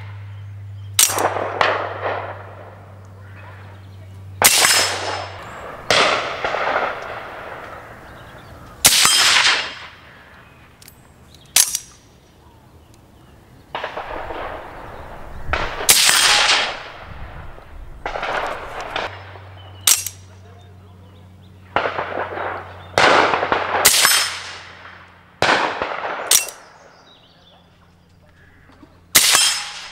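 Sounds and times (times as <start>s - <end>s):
rifle shots echoing: 1.0s - 10.8s, 11.5s - 12.1s, 13.7s - 20.6s, 21.5s - 27.2s, 28.5s - 29.9s.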